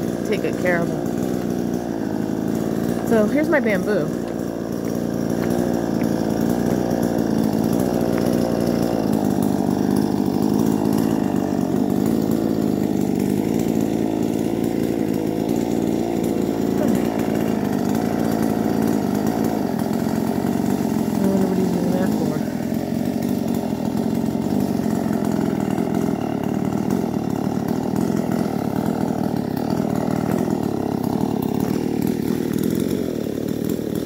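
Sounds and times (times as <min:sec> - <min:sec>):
chainsaw cutting: 0:00.0 - 0:34.0.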